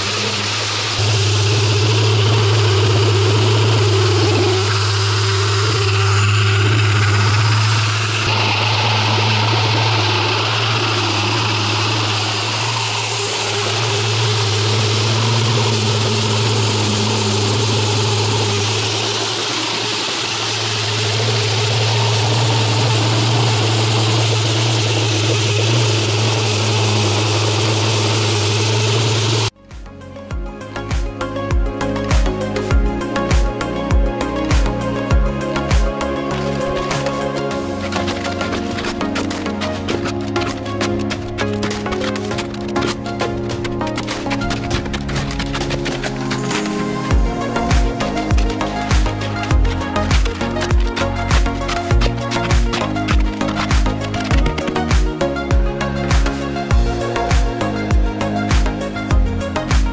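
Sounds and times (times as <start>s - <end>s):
hiss: 0.0s - 29.5s, 30.8s - 59.9s
engine humming: 0.0s - 59.9s.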